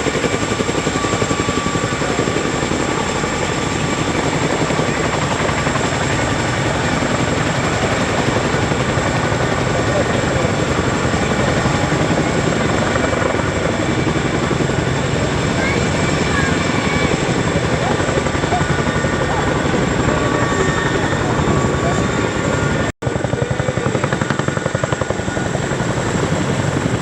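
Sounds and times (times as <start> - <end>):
turbine whine: 0.0 - 22.9
helicopter rotor beat: 0.0 - 27.0.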